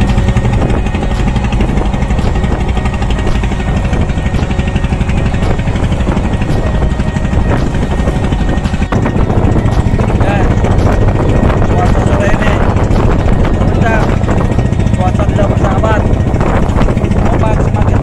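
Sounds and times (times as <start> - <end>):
boat engine throbbing: 0.0 - 18.0
choppy water: 0.0 - 18.0
wind: 0.0 - 18.0.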